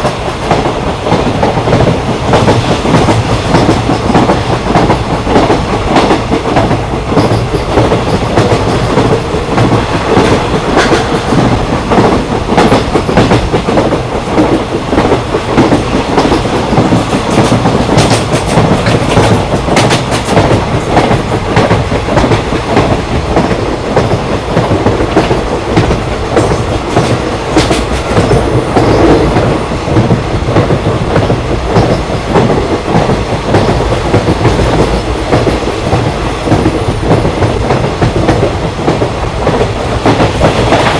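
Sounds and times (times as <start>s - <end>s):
train rumbling on track: 0.0s - 40.9s
wheels clacking over rail joints: 0.0s - 40.9s.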